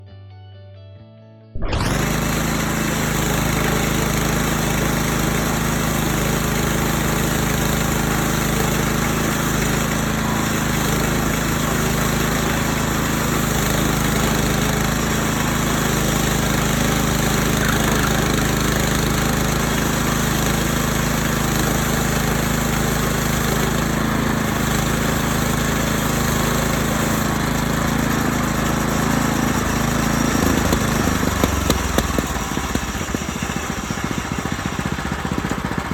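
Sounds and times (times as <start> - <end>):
saw noise: 1.6 - 35.9
sawmill engine running: 1.6 - 35.9.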